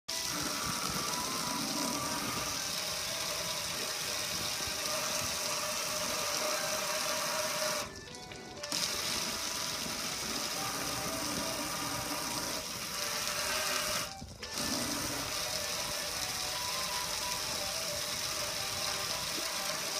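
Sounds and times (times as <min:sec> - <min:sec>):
pressure washer pump hum: 0:00.1 - 0:19.9.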